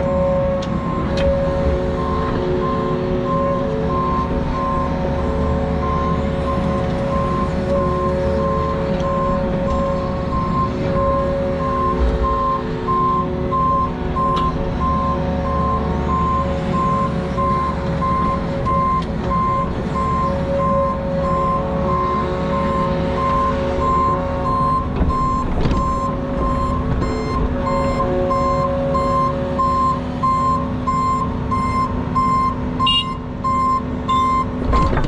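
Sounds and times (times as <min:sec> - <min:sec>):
diesel engine rumbling: 0:00.0 - 0:35.0
backup alarm beeping: 0:05.8 - 0:34.9.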